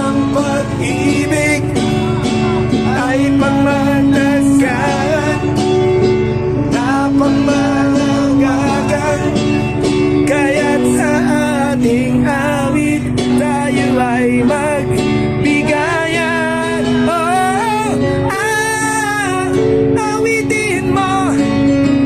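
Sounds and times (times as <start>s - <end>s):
instrumental accompaniment: 0.0s - 22.0s
person singing a slow ballad: 0.0s - 22.0s.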